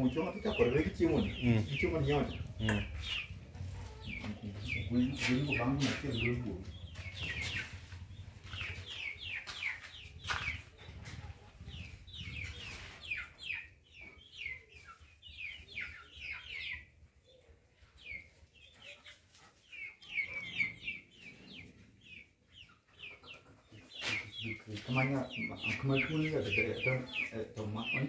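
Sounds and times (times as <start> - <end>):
chickens calling: 0.0 - 28.0.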